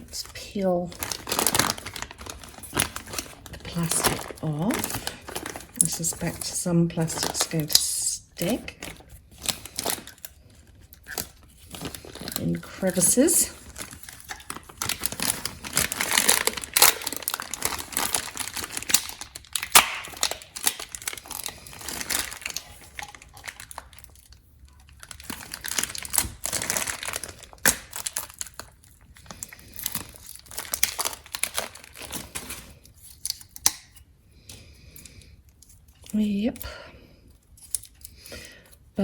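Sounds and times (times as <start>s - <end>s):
plastic film peeling and crinkling: 0.0s - 34.0s, 37.4s - 38.2s.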